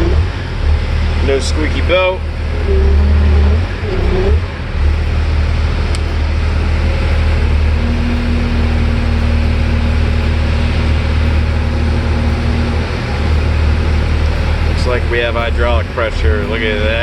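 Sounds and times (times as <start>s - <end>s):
diesel engine running: 0.0s - 17.0s
steady tone: 0.0s - 17.0s.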